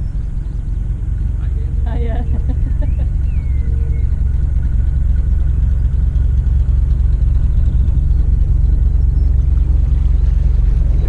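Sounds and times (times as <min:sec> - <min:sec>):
boat diesel engine rumbling: 0:00.0 - 0:11.0.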